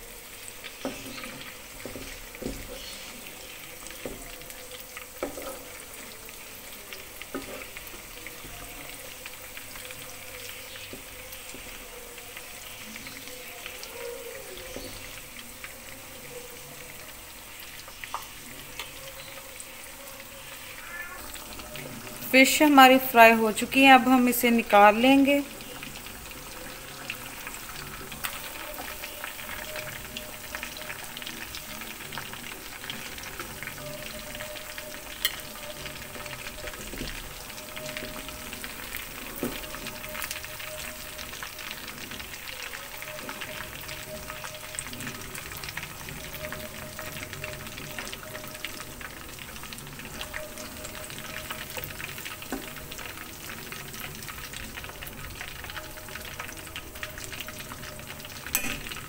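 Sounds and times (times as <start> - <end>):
fish deep-frying in oil: 0.0 - 59.0.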